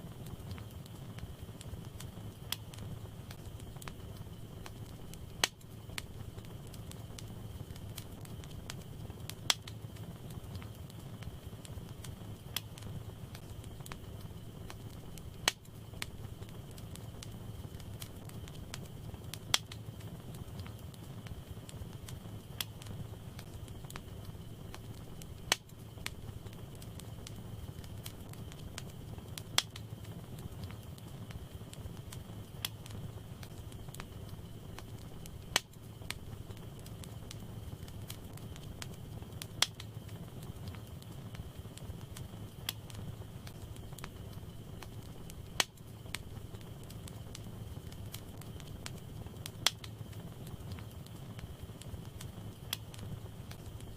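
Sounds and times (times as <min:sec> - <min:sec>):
faint fire crackling: 0:00.0 - 0:53.9
fire flames rumbling: 0:00.0 - 0:53.9.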